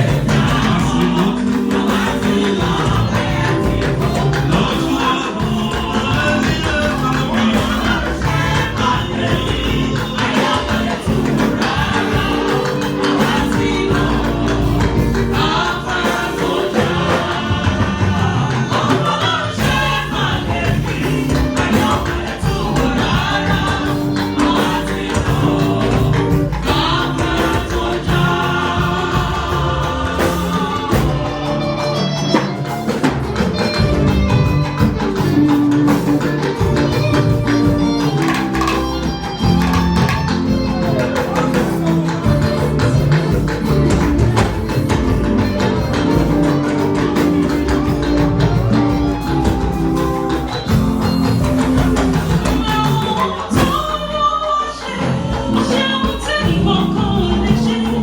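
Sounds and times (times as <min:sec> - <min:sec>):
bass line: 0:00.0 - 0:54.2
choir singing gospel: 0:00.0 - 0:58.0
percussion: 0:00.0 - 0:58.0.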